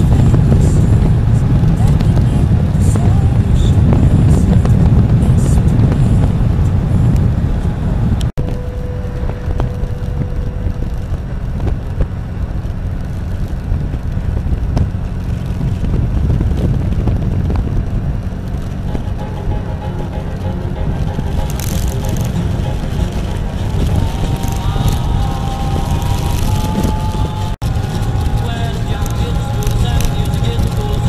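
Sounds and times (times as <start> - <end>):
motorcycle engine running: 0.0 - 31.0
road noise: 0.0 - 31.0.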